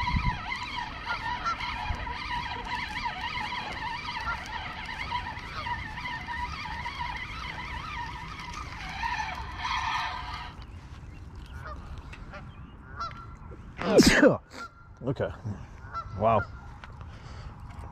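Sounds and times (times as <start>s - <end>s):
geese honking: 0.0s - 13.5s, 15.7s - 16.8s.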